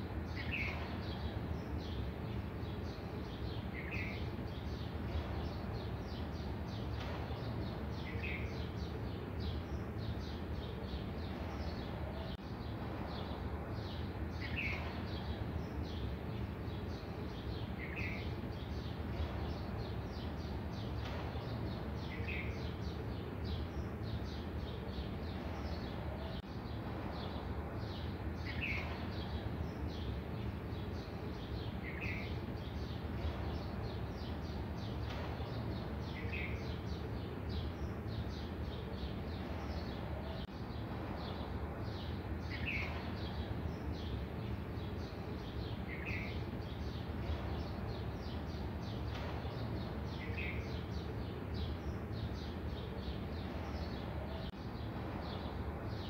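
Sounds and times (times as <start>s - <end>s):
low background noise: 0.0s - 56.0s
birds chirping: 0.3s - 56.0s.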